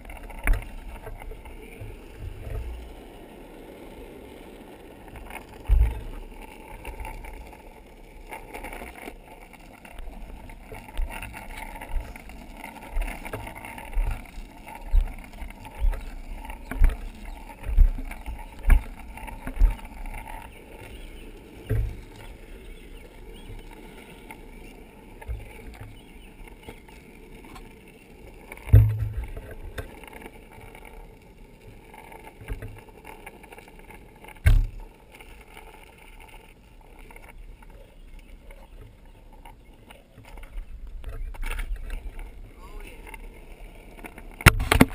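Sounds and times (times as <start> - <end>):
skateboard wheels rolling on asphalt: 0.0 - 44.9.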